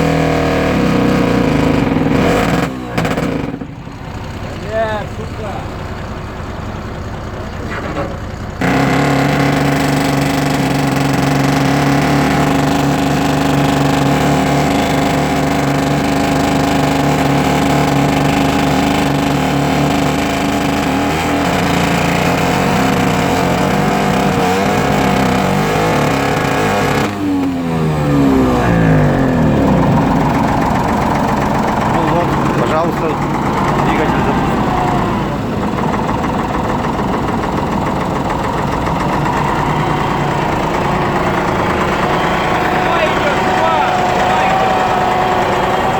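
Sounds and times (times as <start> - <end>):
motor grader engine running: 0.0 - 45.9.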